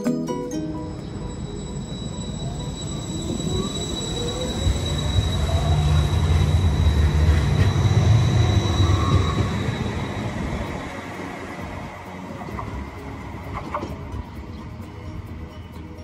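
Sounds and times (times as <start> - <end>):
tram wheels rumbling on rails: 0.5 - 16.0
rising whine: 0.6 - 14.2.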